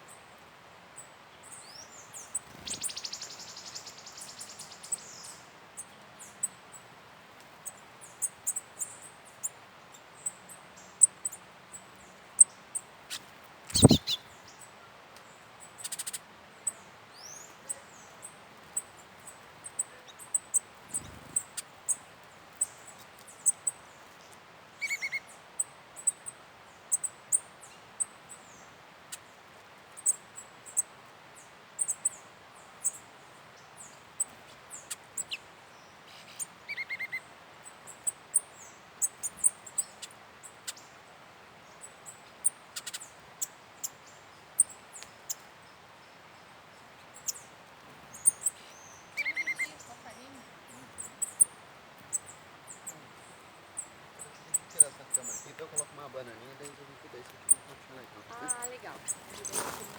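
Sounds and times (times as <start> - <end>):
small birds chirping: 1.0 - 59.9.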